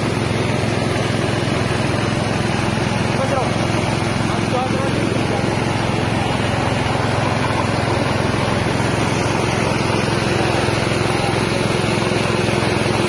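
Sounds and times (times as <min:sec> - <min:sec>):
rice milling machine running: 0:00.0 - 0:13.0.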